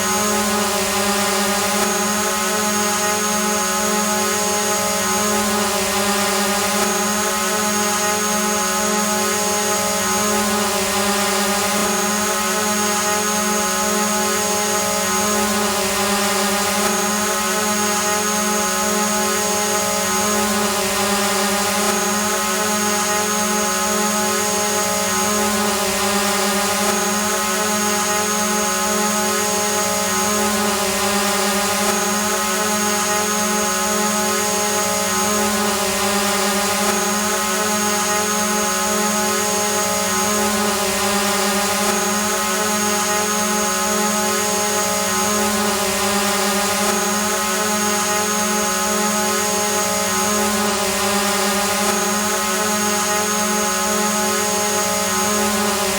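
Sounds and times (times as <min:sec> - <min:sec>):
drone propeller hum: 0:00.0 - 0:55.9.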